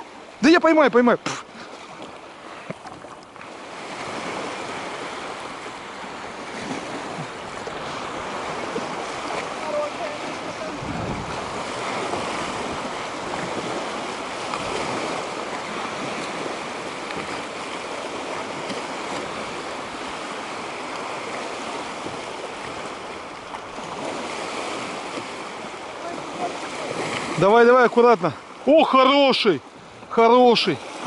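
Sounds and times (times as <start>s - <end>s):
waves washing: 0.0s - 31.0s
wind: 0.0s - 31.0s.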